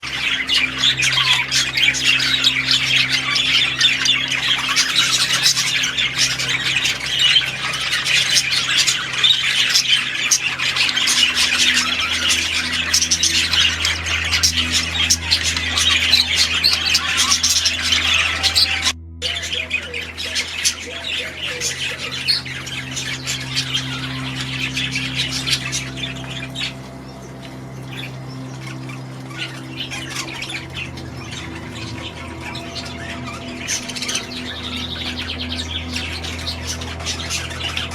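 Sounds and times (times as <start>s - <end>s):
cage birds squawking and chirping: 0.0s - 37.9s
steady low hum: 0.0s - 37.9s.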